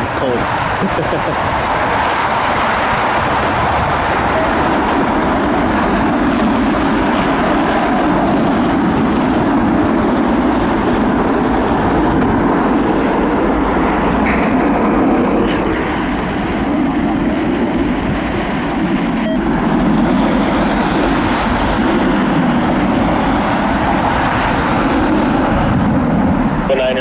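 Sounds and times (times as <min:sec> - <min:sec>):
jet aircraft engine noise: 0:00.0 - 0:27.0
wind buffeting microphone: 0:00.0 - 0:27.0.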